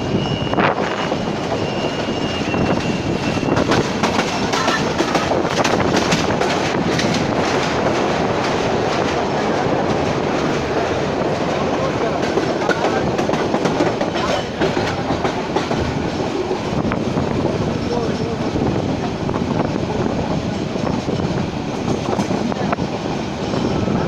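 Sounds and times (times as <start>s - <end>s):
rail joint clicks: 0.0s - 24.0s
train wheels rumbling on rails: 0.0s - 24.0s.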